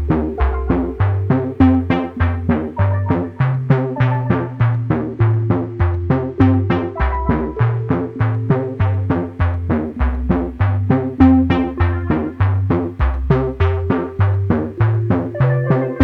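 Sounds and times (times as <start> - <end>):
music with quick steady beat: 0.0 - 16.0
stepping bass line: 0.0 - 16.0.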